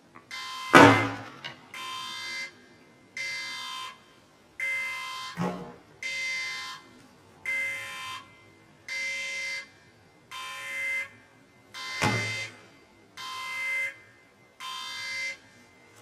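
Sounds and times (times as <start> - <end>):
electronic alarm buzzer beeping: 0.3 - 16.0.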